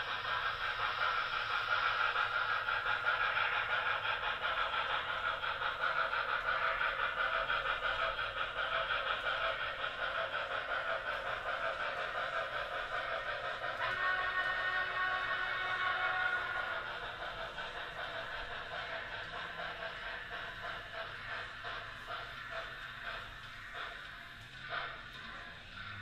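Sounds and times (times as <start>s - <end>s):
model steam locomotive chuffing: 0.0s - 26.0s.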